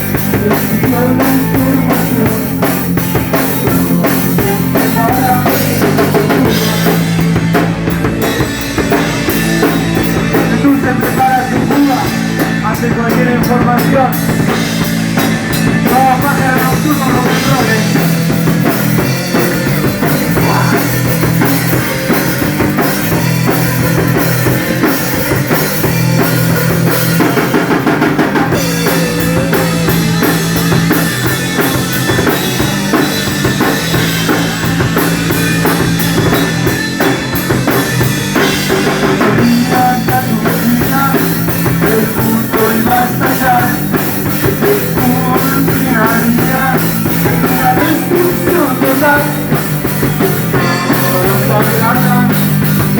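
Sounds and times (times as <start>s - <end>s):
drum kit: 0.0s - 52.9s
rock band playing: 0.0s - 52.9s.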